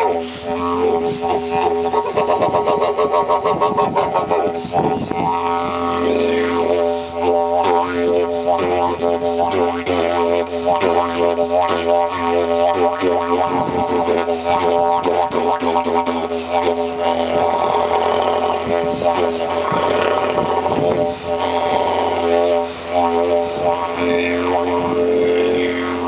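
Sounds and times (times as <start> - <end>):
didgeridoo drone: 0.0 - 26.0.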